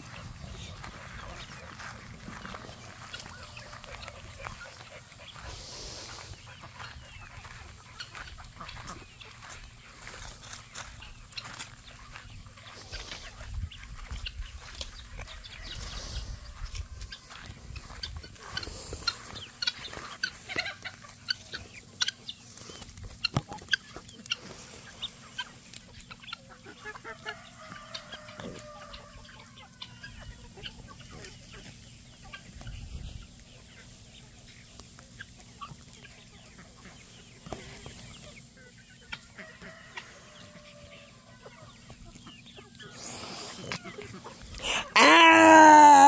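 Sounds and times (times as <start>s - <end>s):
chickens clucking and calling: 0.0s - 46.0s.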